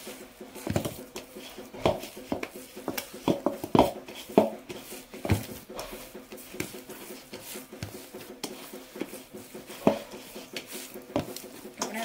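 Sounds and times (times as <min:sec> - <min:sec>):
dough kneaded in metal bowl: 0:00.0 - 0:12.0.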